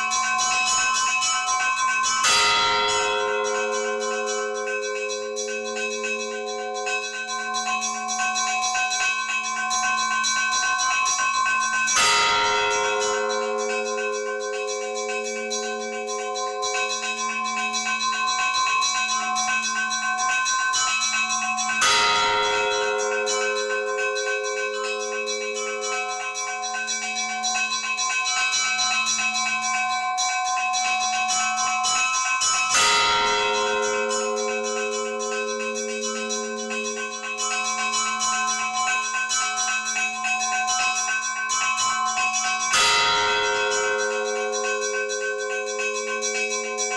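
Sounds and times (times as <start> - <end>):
small church bells ringing: 0.0 - 46.9.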